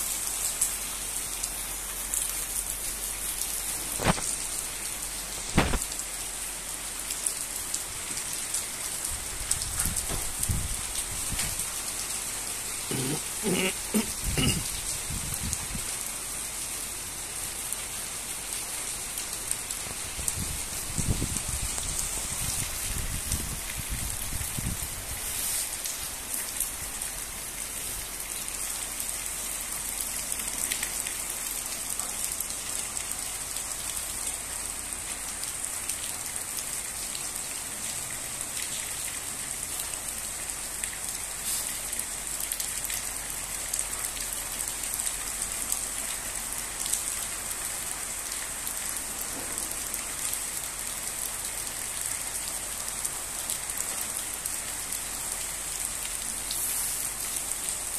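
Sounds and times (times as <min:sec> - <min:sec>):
torrential rain pattering: 0:00.0 - 0:57.9.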